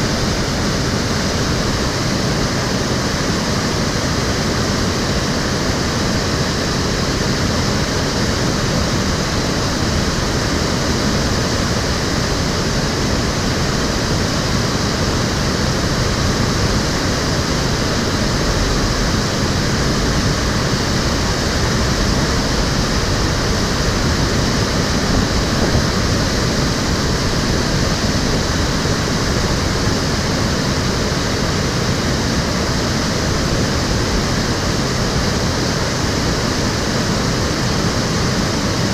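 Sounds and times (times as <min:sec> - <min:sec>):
stream water flowing and splashing: 0:00.0 - 0:38.9.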